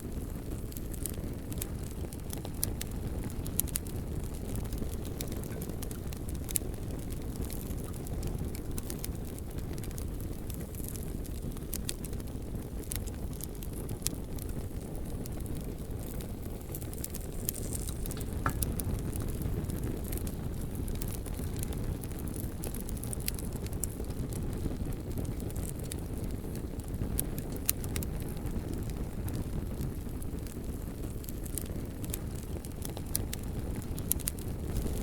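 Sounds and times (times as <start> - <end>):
logs crackling and popping: 0.0 - 35.0
rumble of flames: 0.0 - 35.0.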